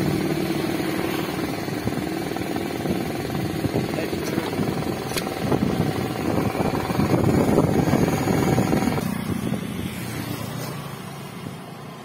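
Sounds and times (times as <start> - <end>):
welding machine mechanical drone: 0.0 - 11.6.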